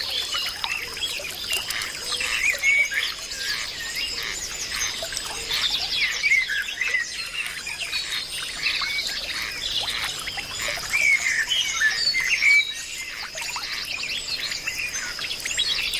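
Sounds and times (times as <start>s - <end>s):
birds chirping and trilling: 0.0s - 15.9s.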